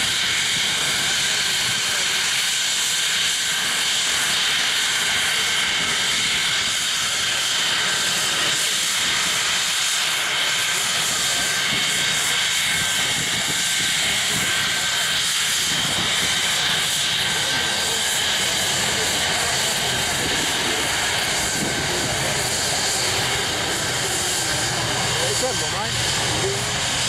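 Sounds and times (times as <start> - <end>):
jet engine whine and rushing hiss: 0.0 - 27.0.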